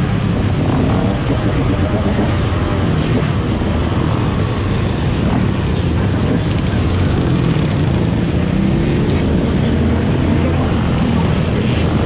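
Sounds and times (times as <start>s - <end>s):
dirt bike engines rumbling: 0.0s - 12.0s
road noise: 0.0s - 12.0s.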